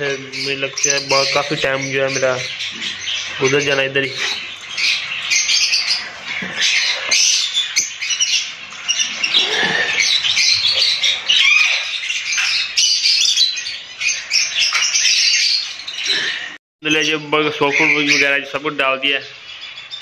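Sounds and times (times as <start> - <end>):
parrots squawking and chirping: 0.0 - 20.0.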